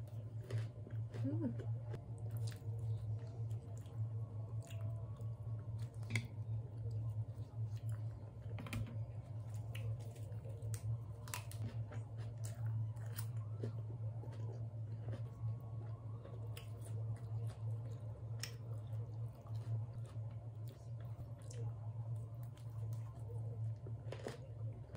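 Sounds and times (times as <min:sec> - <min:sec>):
chewing and crunching lettuce: 0:00.0 - 0:24.9
steady low hum: 0:00.0 - 0:24.9.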